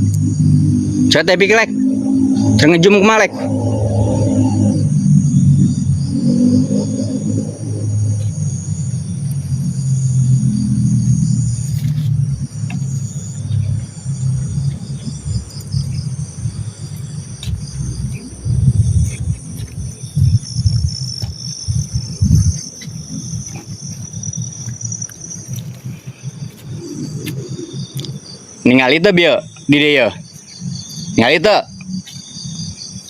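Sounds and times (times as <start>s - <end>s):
uneven low rumble: 0.0s - 28.5s
crickets chirring: 0.0s - 33.0s.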